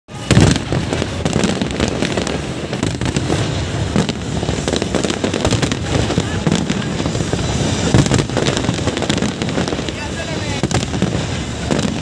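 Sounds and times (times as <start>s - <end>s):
fireworks bangs and crackles: 0.1s - 12.0s.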